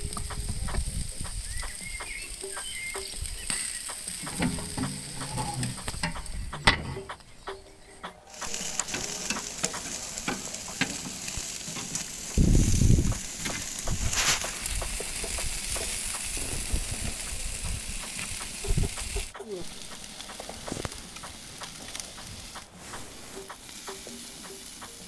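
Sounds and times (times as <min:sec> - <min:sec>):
wings sizzling on a barbecue grill: 0:00.0 - 0:25.0.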